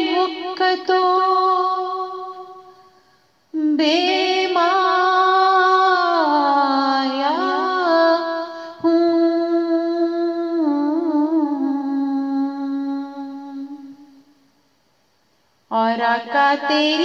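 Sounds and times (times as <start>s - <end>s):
woman singing: 0.0s - 2.8s, 3.6s - 14.3s, 15.7s - 17.0s.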